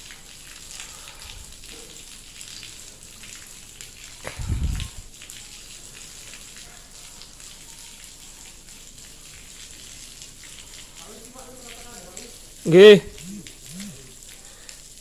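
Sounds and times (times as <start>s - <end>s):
ash rain pattering: 0.0s - 15.0s.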